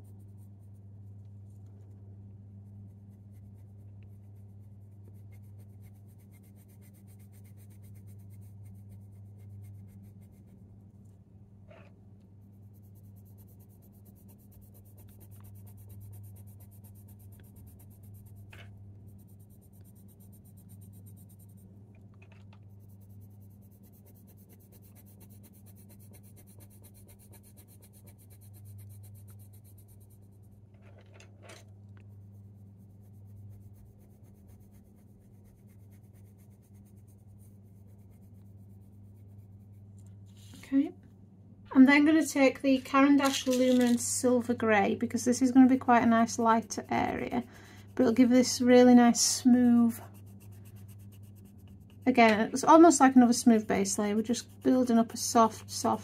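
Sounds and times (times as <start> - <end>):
steady low hum: 0.0 - 56.0
pencil scratching on paper: 2.8 - 10.6, 11.7 - 21.7, 22.6 - 30.7, 32.1 - 40.5, 42.9 - 56.0.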